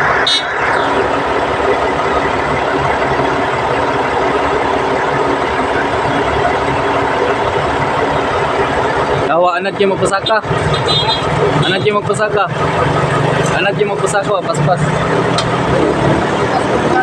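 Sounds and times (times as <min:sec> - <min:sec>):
diesel bulldozer engine running: 0:00.0 - 0:17.0.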